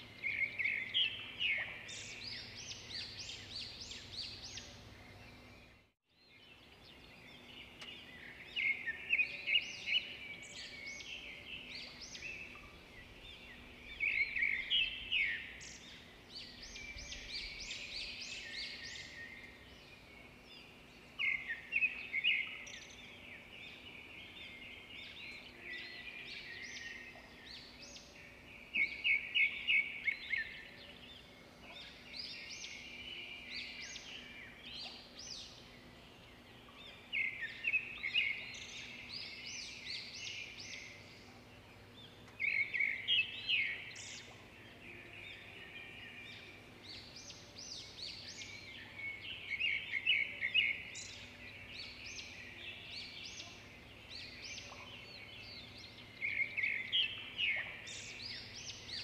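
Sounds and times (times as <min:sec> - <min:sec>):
background bird chirps: 0:00.0 - 0:59.0
songbirds singing: 0:00.0 - 0:59.0.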